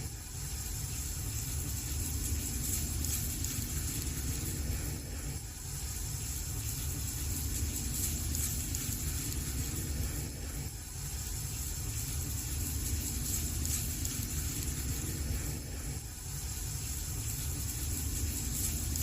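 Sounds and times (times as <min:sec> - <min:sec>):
fire crackles: 0:00.0 - 0:19.0
wood fire burning: 0:00.0 - 0:19.0.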